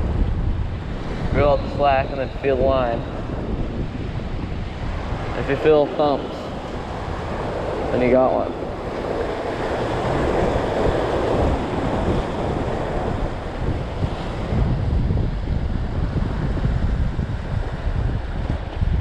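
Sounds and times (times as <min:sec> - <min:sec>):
surf washing over rocks: 0:00.0 - 0:19.0
wind buffeting microphone: 0:00.0 - 0:19.0.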